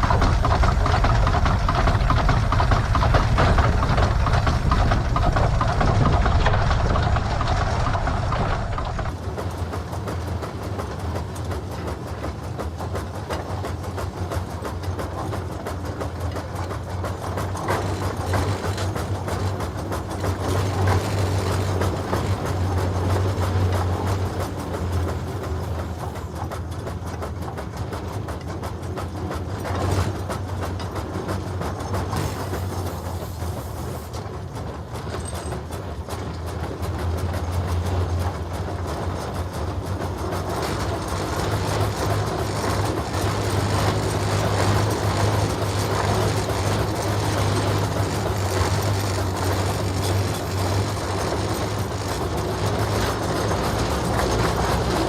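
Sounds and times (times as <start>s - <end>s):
steam engine drone and clatter: 0.0s - 55.0s.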